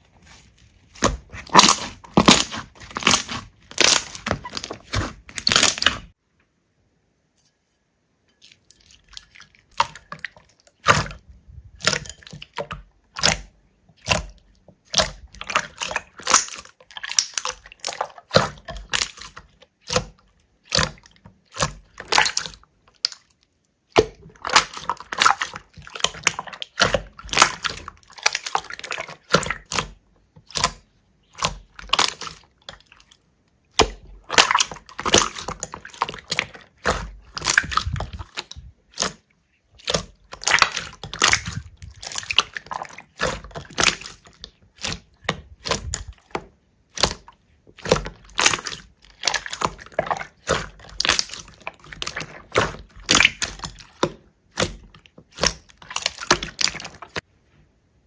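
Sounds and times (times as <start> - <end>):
hands squishing slime: 0.0 - 6.2, 8.4 - 57.3.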